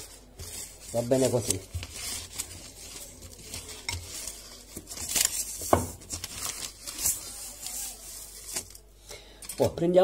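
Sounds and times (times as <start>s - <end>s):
baking paper crinkling: 0.0s - 10.0s.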